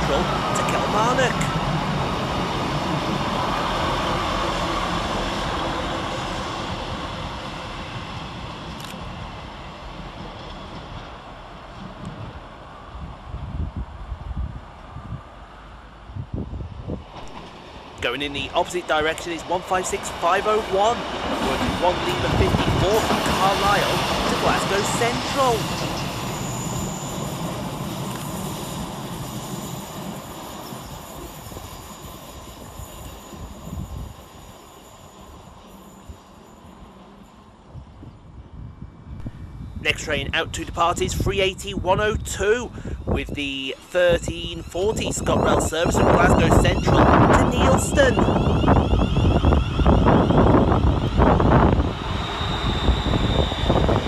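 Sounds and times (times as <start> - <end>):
diesel train rumbling past: 0.0 - 54.0.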